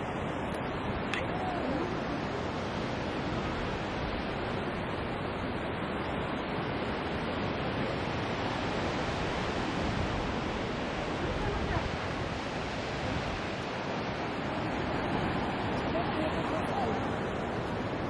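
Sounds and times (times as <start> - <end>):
distant surf on rocks: 0.0 - 18.0
wind on microphone: 0.0 - 18.0.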